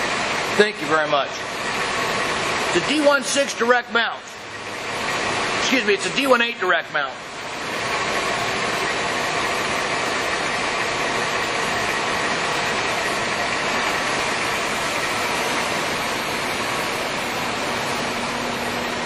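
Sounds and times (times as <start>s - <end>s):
lathe whirring: 0.0s - 19.0s.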